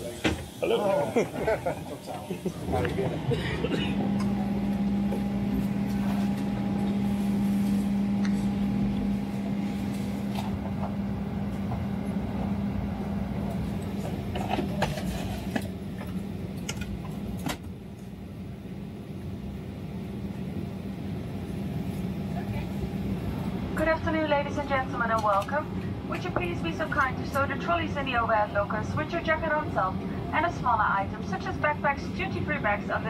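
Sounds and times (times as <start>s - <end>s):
aircraft cabin hum and air rush: 0.0s - 33.0s.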